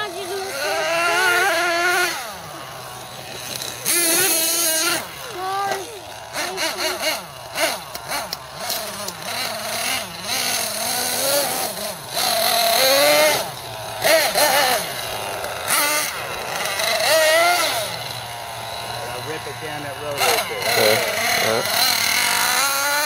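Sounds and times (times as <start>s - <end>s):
small engine revving: 0.0s - 23.0s.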